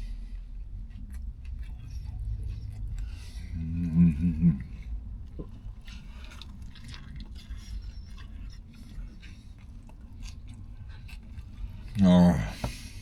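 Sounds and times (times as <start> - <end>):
chewing sandwich: 0.0 - 13.0.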